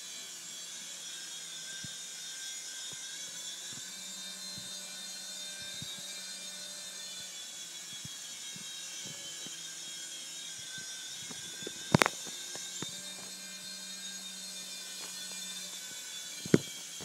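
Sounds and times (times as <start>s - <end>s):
toy helicopter motor whine: 0.0s - 17.0s.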